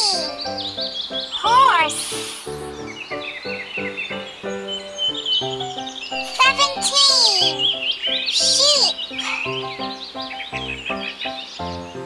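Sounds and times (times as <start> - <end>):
children's background music: 0.0 - 12.0
high-pitched chirping calls: 0.0 - 12.0.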